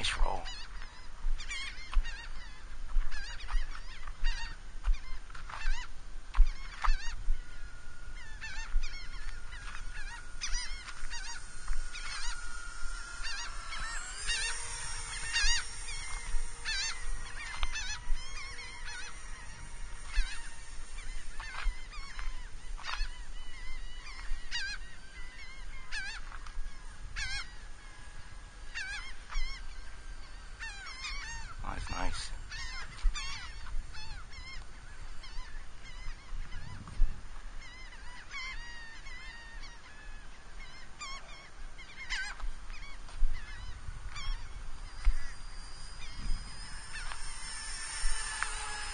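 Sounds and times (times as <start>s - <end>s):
birds honking: 0.0s - 48.9s
model plane electric motors whining: 0.0s - 48.9s.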